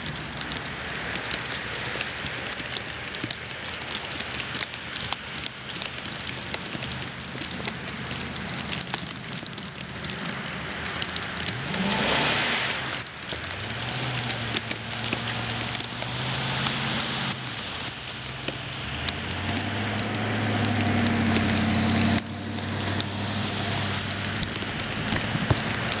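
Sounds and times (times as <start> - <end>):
small crackling ticks: 0.0 - 26.0
vehicles driving past on snow: 0.0 - 26.0.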